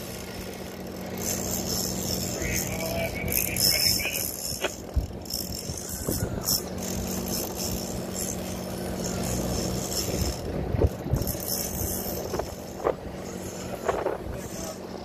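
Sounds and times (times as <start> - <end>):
boat engine idling: 0.0 - 15.0
wind: 0.0 - 15.0.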